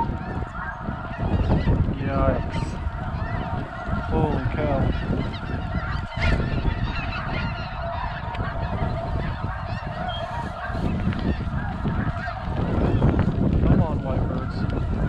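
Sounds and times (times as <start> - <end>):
geese honking: 0.0 - 15.0
wind rumble on microphone: 0.0 - 15.0.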